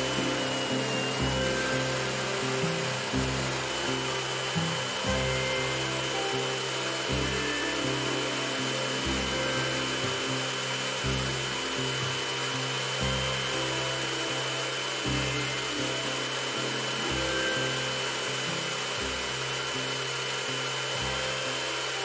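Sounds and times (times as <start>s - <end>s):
background music with bass line: 0.0s - 22.0s
pressure washer spraying: 0.0s - 22.0s.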